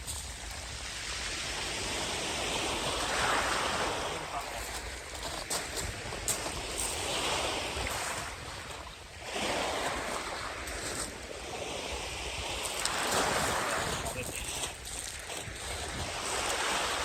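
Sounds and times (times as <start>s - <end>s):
sea waves breaking on a beach: 0.0s - 17.0s
wind rumbling on microphone: 0.0s - 17.0s.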